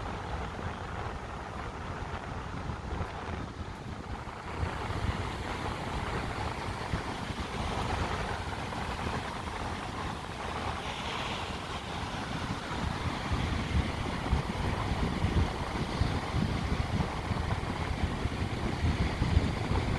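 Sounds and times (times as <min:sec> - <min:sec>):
sea surf washing in: 0:00.0 - 0:19.9
wind gusting on microphone: 0:00.0 - 0:19.9.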